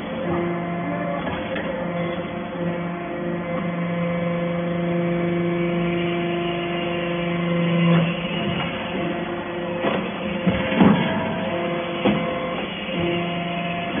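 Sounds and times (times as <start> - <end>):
hydraulic pump motor humming: 0.0 - 14.0.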